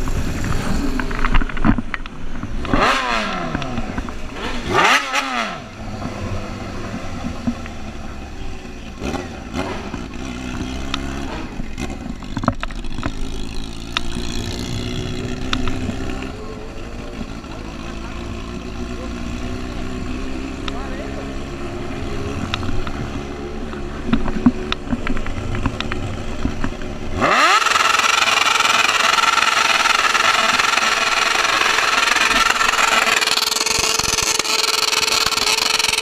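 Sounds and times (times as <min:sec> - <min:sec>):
motorcycle engines revving past: 0:00.0 - 0:36.0.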